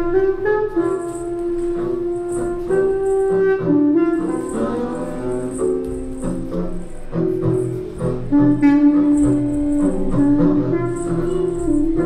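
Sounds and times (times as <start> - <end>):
bowed double bass: 0.0 - 12.0.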